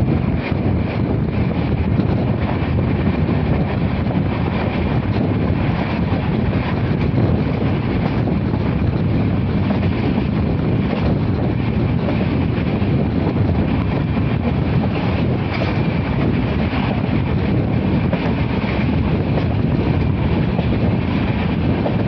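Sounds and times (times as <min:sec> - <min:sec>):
train wheels rumbling on track: 0:00.0 - 0:22.0
wind buffeting microphone: 0:00.0 - 0:22.0.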